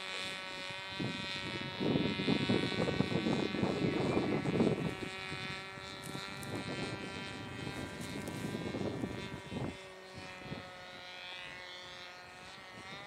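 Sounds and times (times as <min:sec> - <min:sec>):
model airplane motor drone: 0:00.0 - 0:13.0.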